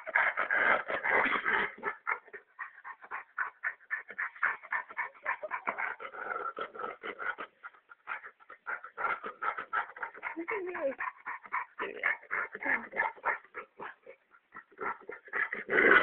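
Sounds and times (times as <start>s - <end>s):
dog making breathy vocal noises: 0.0s - 16.0s.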